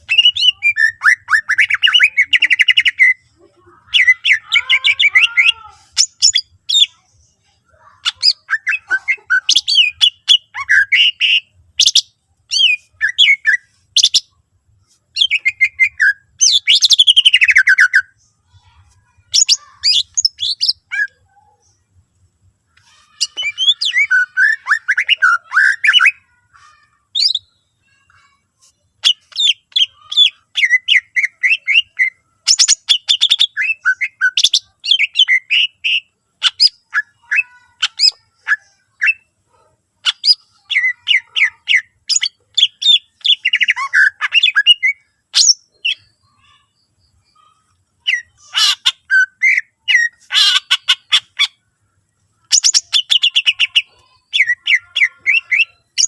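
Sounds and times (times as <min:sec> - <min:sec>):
bird singing chirps and trills: 0:00.0 - 0:56.0.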